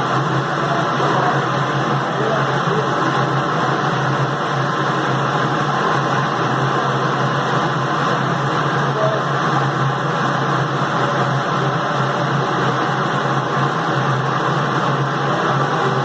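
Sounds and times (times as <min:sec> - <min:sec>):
bottling machine running: 0:00.0 - 0:16.0
rushing noise: 0:00.0 - 0:16.0.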